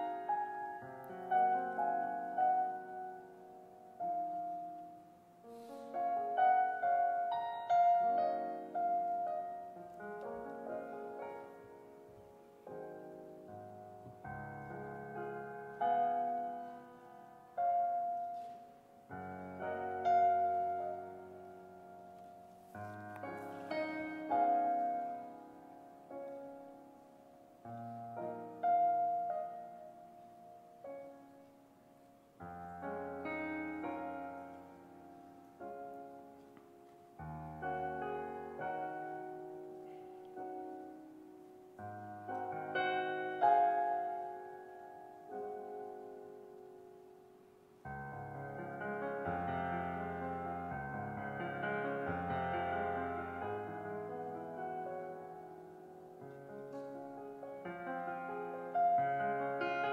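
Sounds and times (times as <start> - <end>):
soft piano chords: 0.0 - 59.9.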